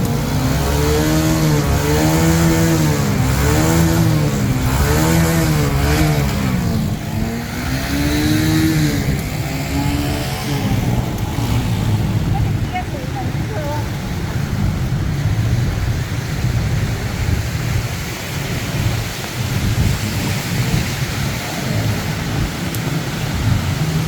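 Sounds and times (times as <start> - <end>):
rain and water noise: 0.0 - 24.0
vehicle engine revving: 0.0 - 24.0.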